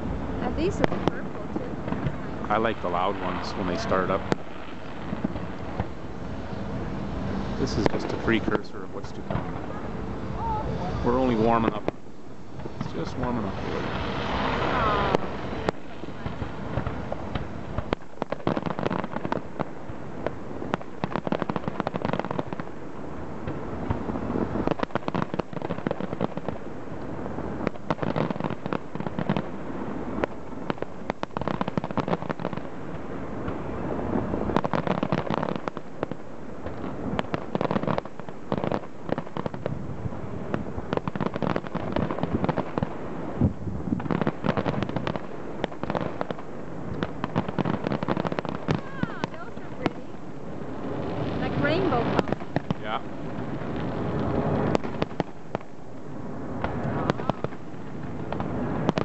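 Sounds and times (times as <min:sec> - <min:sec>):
firework bursts and crackles: 0:00.0 - 0:59.0.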